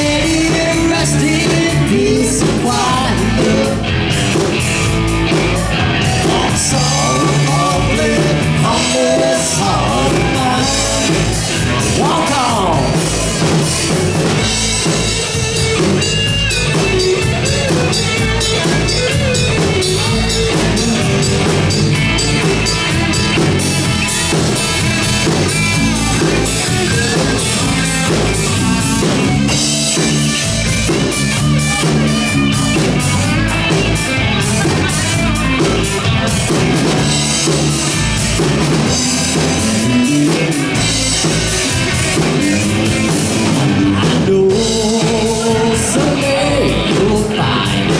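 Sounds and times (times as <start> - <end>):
bass guitar: 0.0 - 47.9
drum kit: 0.0 - 47.9
electric guitar: 0.0 - 47.9.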